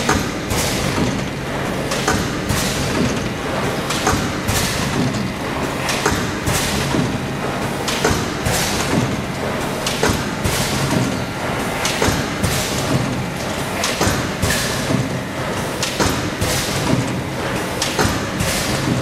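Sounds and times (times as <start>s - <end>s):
machine hum: 0.0s - 19.0s
machine knocks and thumps: 0.0s - 19.0s.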